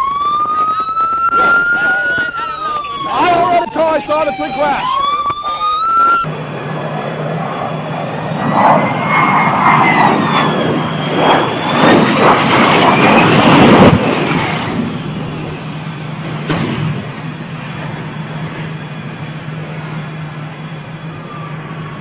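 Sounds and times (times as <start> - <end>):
siren wailing: 0.0 - 16.3, 17.0 - 22.0
jet engines humming and whining: 0.0 - 22.0.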